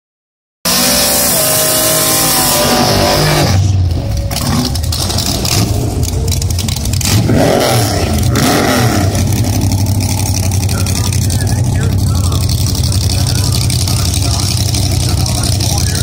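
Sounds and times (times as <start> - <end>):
drag car engine revving: 0.7 - 16.0
tires spinning: 0.7 - 16.0.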